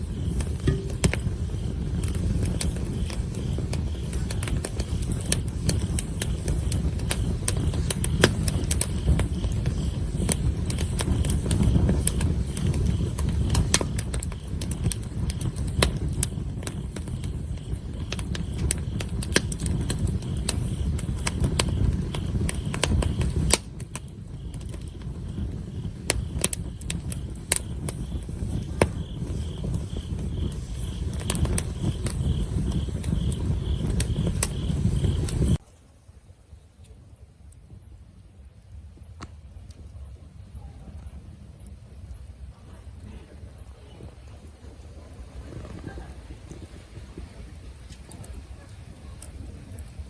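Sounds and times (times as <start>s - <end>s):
campfire crackling and popping: 0.0s - 50.0s.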